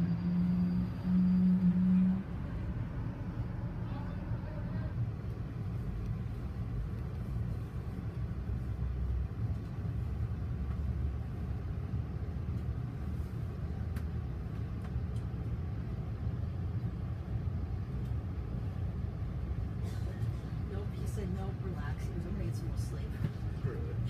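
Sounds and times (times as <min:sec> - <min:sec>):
train coach rumble: 0:00.0 - 0:24.0.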